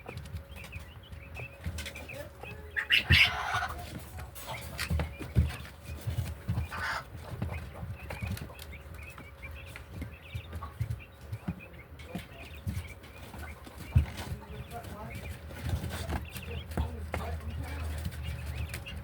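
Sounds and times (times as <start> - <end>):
hens chirping: 0.0 - 19.0
hens thumping and flapping wings: 0.0 - 19.0.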